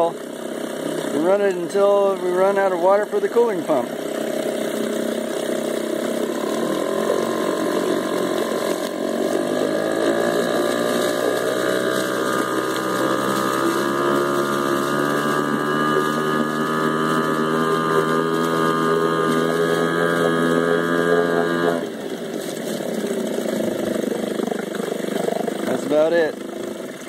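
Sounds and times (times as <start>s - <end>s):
two-stroke outboard engine running: 0.0s - 27.0s
water churning from propeller: 0.0s - 27.0s.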